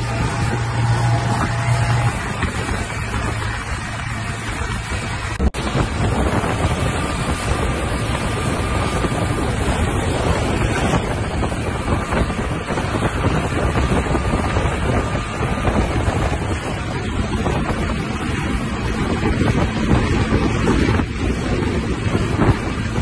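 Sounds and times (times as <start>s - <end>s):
boat engine: 0.0s - 23.0s
water rushing: 0.0s - 23.0s
wind buffeting microphone: 0.0s - 23.0s.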